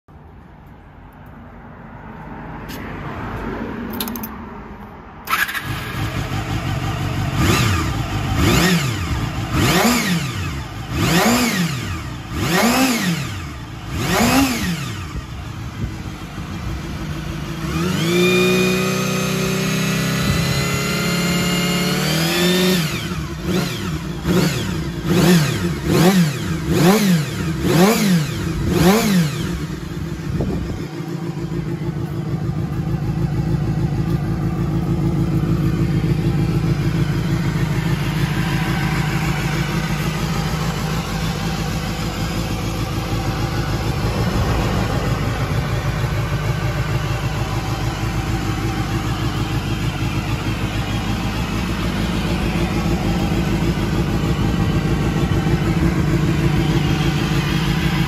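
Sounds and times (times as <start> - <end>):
motorcycle engine idling: 5.2 - 58.0
motorcycle engine revving: 5.2 - 58.0.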